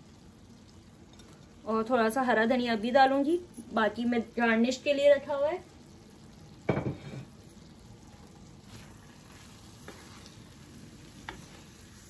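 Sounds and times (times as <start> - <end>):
meat and potatoes sizzling: 0.0 - 12.0.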